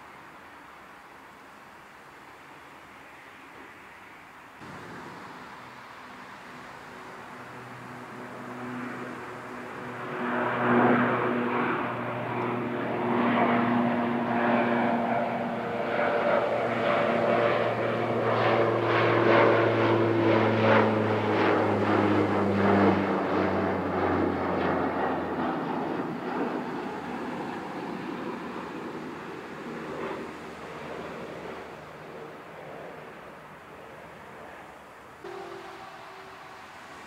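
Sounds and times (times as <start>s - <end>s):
turboprop airliner landing: 4.6s - 37.0s.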